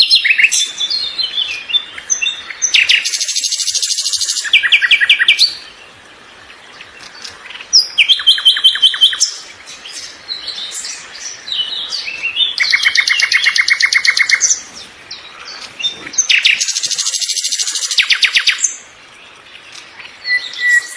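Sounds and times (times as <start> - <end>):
songbird trilling: 0.0 - 5.9, 6.5 - 20.9
soft bird chirps: 0.0 - 20.9.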